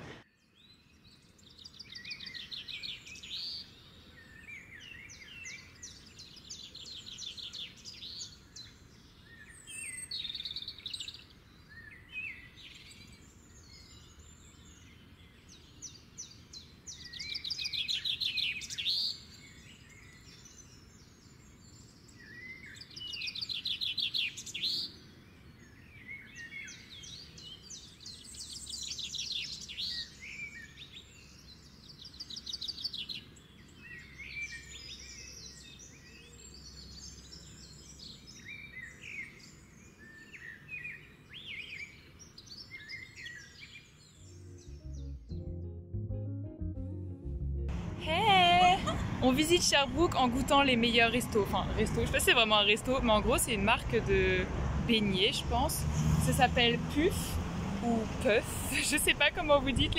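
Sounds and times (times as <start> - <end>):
faint outdoor background noise: 0.0 - 45.3, 47.7 - 59.9
songbirds singing: 0.0 - 45.3, 47.8 - 59.9.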